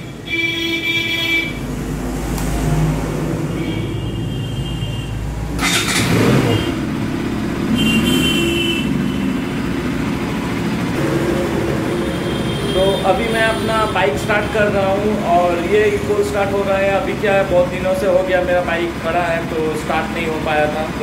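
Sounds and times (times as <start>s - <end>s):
motorcycle engine starting and running: 1.6s - 21.0s.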